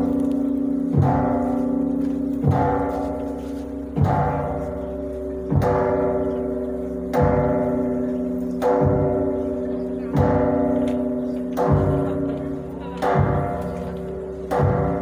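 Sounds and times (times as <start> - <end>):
large bell ringing: 0.0 - 15.0.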